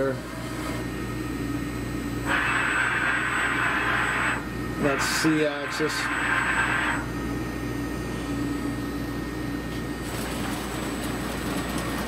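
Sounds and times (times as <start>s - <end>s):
faint steady whine: 0.0s - 10.0s
grinder machine hum: 0.0s - 12.0s.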